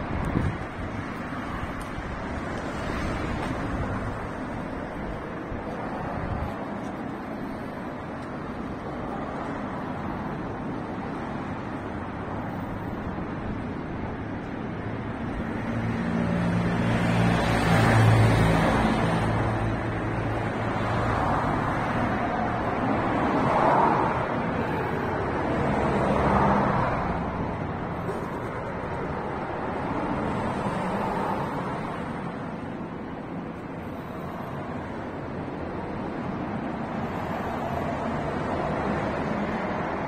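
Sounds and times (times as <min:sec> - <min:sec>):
road traffic passing: 0:00.0 - 0:40.0
vehicle engine hum: 0:00.0 - 0:40.0.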